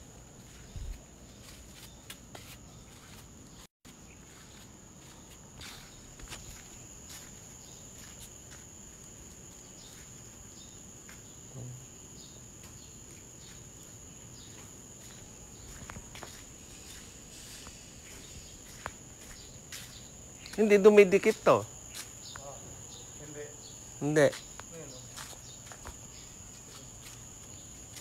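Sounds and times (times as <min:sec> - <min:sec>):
insects trilling: 0:00.0 - 0:28.0
light footsteps on pavement: 0:00.2 - 0:11.4, 0:12.5 - 0:23.0, 0:24.2 - 0:28.0.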